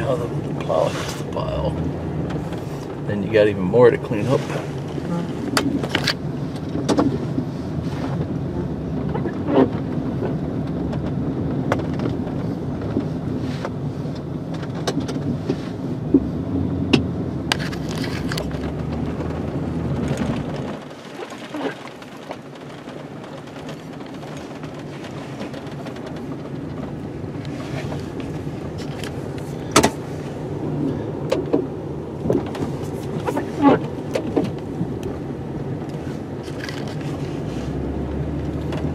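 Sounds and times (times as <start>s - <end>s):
truck engine running: 0.0s - 13.2s, 15.4s - 38.9s.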